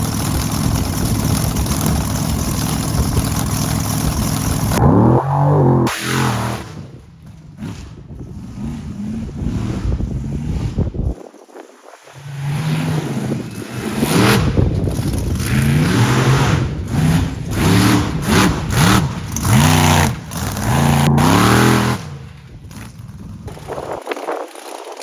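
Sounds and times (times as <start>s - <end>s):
truck engine revving: 0.0s - 11.2s, 12.2s - 24.0s.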